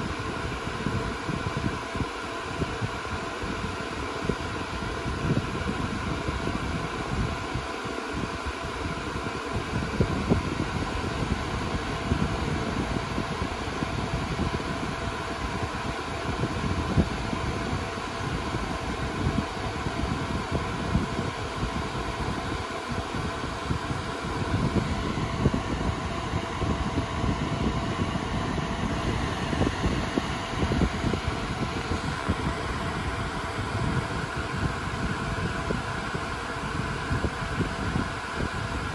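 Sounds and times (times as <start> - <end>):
cooling fans whirring: 0.0 - 38.9.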